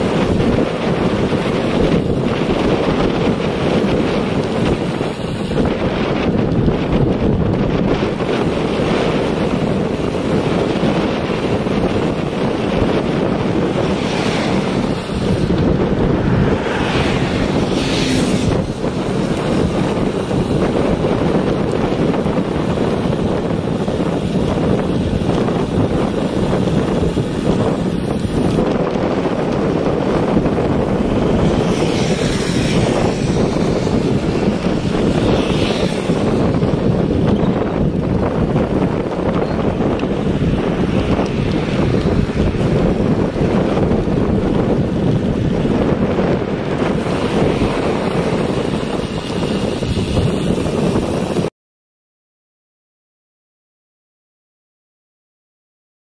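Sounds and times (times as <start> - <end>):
wind rumble on microphone: 0.0 - 51.5.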